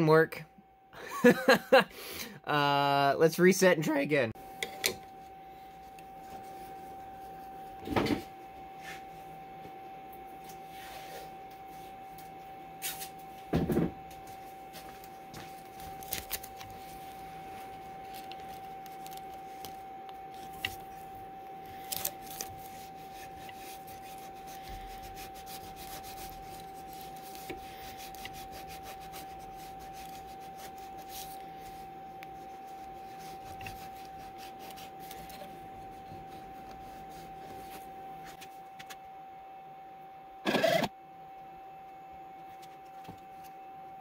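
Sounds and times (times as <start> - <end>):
faint hum: 0.0 - 44.0.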